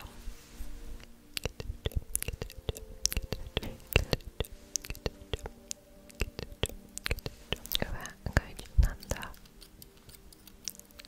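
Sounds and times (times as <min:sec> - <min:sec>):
faint steady hum: 0:00.0 - 0:11.0
mouth clicks and pops: 0:01.0 - 0:11.0.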